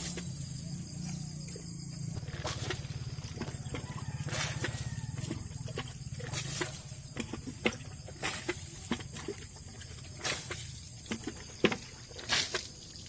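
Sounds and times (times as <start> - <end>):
water splashing on motorcycle: 2.2 - 13.0.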